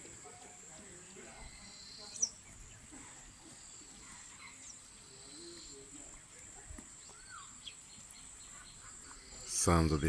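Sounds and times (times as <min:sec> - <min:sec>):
faint bird calls: 0:00.0 - 0:10.0.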